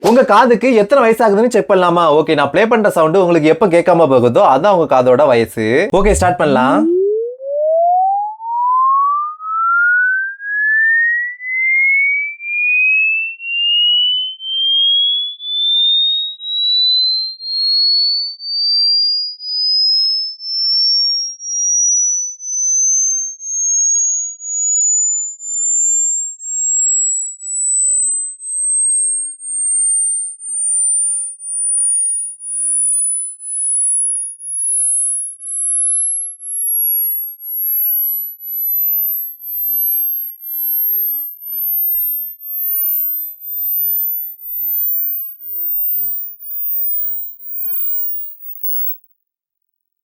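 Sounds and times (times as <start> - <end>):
pulsing sine tone sweeping upward: 6.0 - 49.0.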